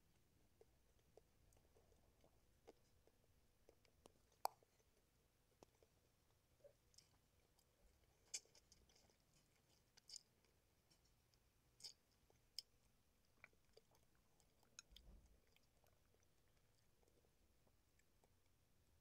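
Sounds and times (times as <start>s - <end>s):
person chewing: 0.6s - 6.0s, 6.6s - 18.5s.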